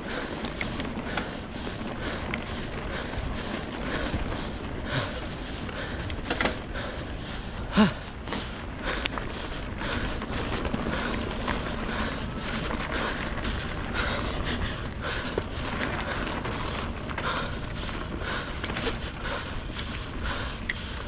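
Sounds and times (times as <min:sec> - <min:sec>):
bicycle road noise: 0:00.0 - 0:21.0.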